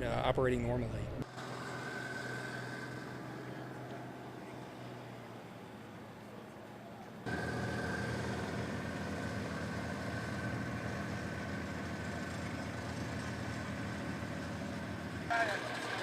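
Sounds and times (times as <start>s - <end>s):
thin steady whine: 0.8s - 16.0s
heavy vehicle engine running: 1.2s - 16.0s.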